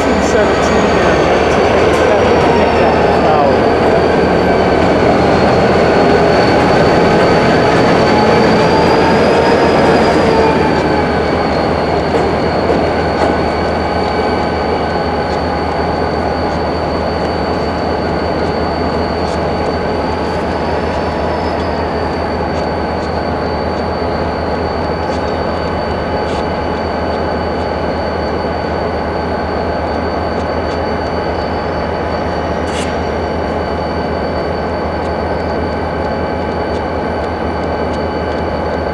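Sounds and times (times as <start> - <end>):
low rumble of rail cars: 0.0 - 38.9
steel wheels squealing: 0.0 - 38.9.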